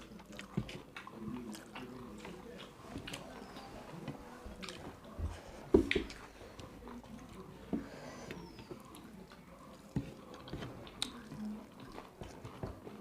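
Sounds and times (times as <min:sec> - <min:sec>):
mouth chewing noises: 0:00.0 - 0:05.2, 0:05.9 - 0:13.0.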